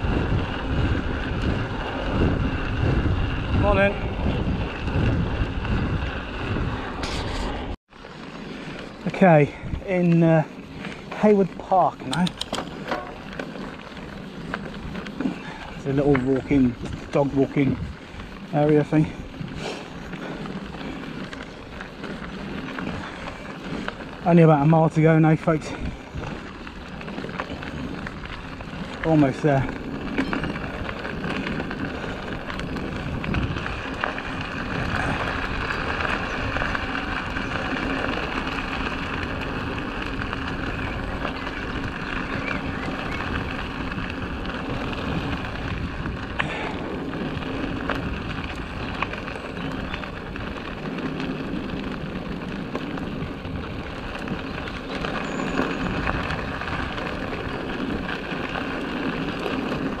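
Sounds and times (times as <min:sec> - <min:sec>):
bike rattle: 0:00.0 - 1:00.0
bike tyres rolling on dirt: 0:00.0 - 1:00.0.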